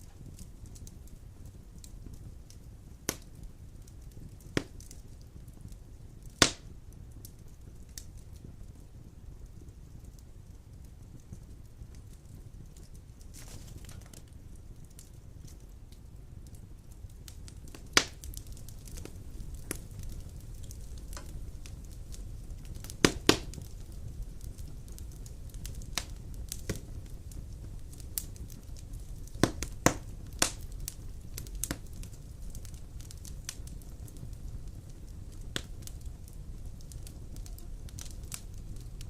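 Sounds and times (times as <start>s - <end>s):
fire crackling and popping: 0.0s - 39.0s
fire flames rumbling: 0.0s - 39.0s.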